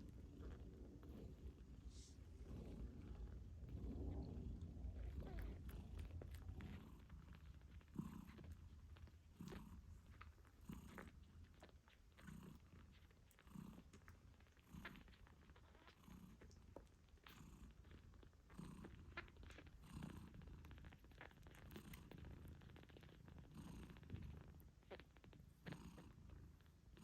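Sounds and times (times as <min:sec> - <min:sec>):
cat purring softly: 0:00.0 - 0:27.0.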